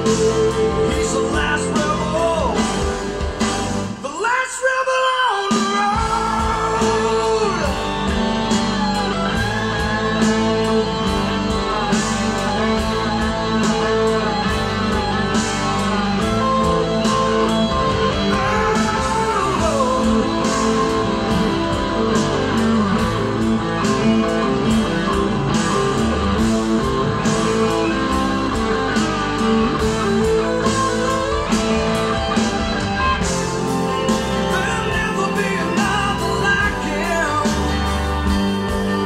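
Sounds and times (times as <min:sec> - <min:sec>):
bending guitar notes: 0:00.0 - 0:04.0, 0:06.0 - 0:39.0
rock music over loudspeakers: 0:00.0 - 0:39.0.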